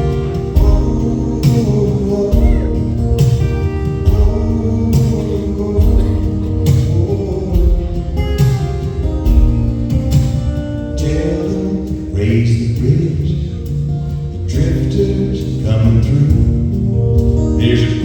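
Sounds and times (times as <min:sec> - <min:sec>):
guitar: 0:00.0 - 0:18.0
live band playing country-pop: 0:00.0 - 0:18.0.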